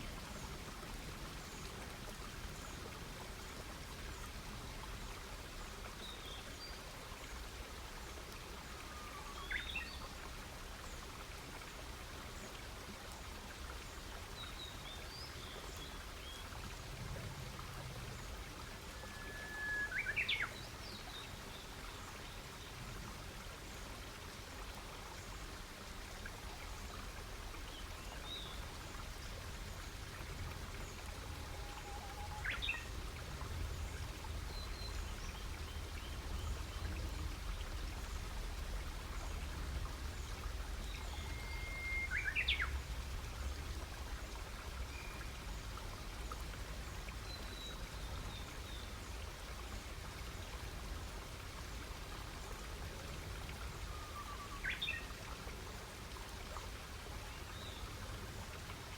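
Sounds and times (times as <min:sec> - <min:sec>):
low rumble and hiss: 0:00.0 - 0:58.9.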